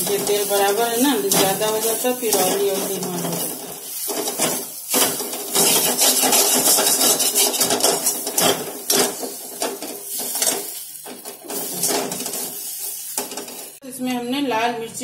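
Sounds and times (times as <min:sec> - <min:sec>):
metal spatula scraping a pan: 0:00.0 - 0:13.8.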